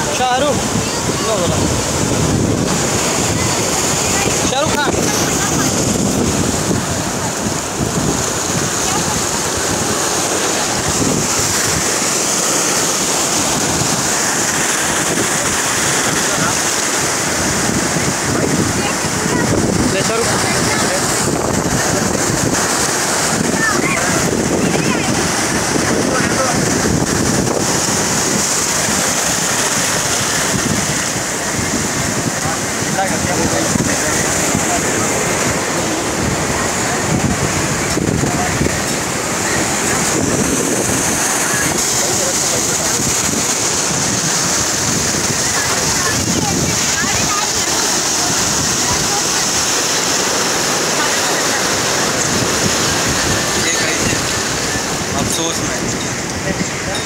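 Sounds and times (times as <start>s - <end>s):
waves breaking over rocks: 0.0s - 57.0s
wind buffeting microphone: 0.0s - 57.0s.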